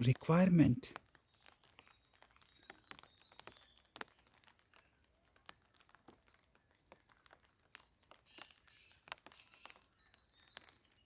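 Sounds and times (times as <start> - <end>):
faint irregular clicks: 0.9 - 11.0.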